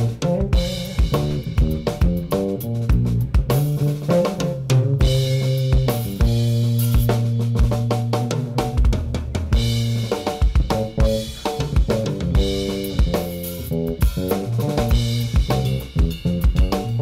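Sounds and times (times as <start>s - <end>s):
electric bass funk line: 0.0s - 17.0s
fast drum beat: 0.0s - 17.0s.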